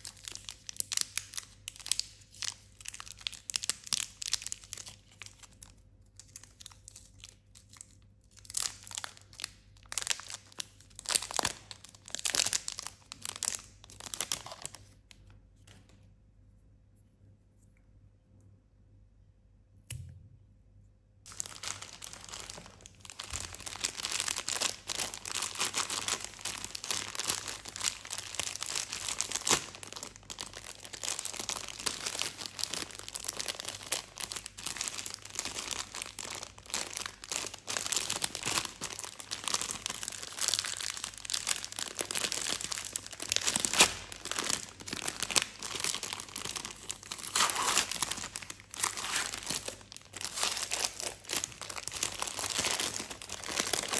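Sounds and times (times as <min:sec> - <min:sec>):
plastic wrapper pulled apart: 0:00.0 - 0:15.2, 0:21.3 - 0:53.9
crinkly plastic wrapper handled: 0:00.0 - 0:16.0, 0:21.3 - 0:53.9.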